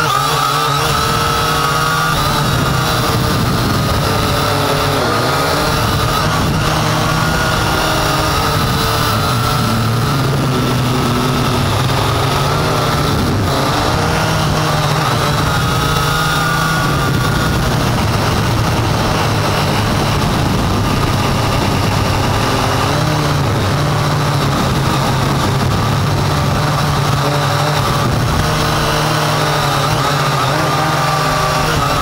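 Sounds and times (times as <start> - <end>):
drone motors and propellers: 0.0 - 32.0.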